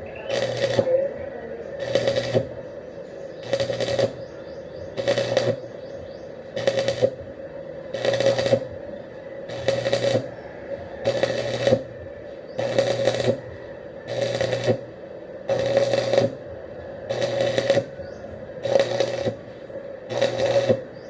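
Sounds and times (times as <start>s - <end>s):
welder low hum: 0.0s - 21.0s
welding arc crackling: 0.0s - 21.0s.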